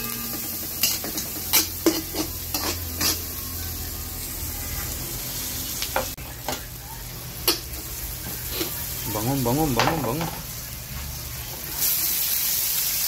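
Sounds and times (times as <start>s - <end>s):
onion and garlic sizzling in oil: 0.0s - 13.0s.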